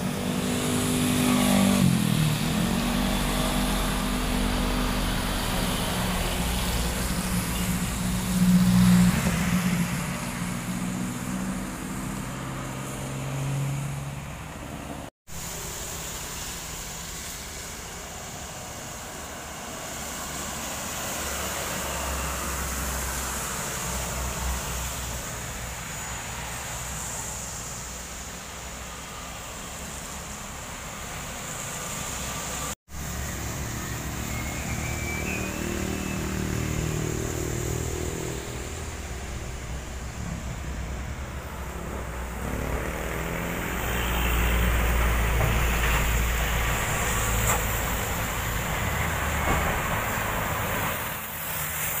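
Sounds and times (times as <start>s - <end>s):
trucks passing with engine rumble: 0.0s - 52.0s
tyre hiss on wet road: 0.0s - 52.0s.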